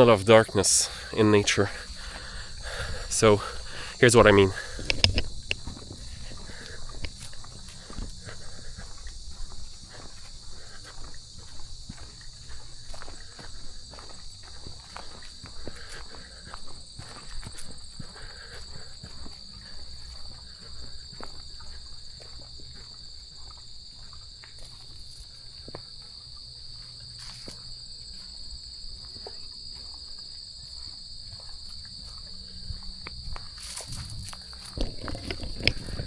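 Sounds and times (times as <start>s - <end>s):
footsteps on a trail: 0.0s - 36.0s
insects droning: 0.0s - 36.0s.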